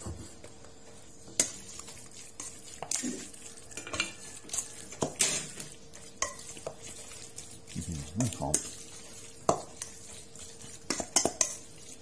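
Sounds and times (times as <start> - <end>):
metal spoon scraping steel bowl: 1.4 - 12.0.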